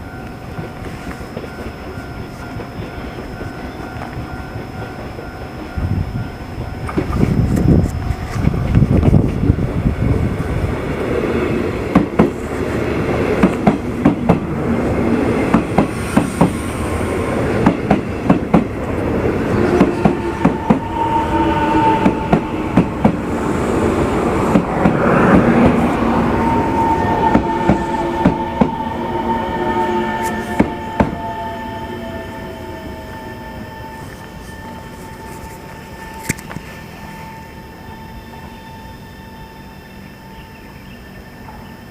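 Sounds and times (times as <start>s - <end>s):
steady high-pitched tone: 0.0s - 41.9s
train rumbling past: 0.0s - 41.9s.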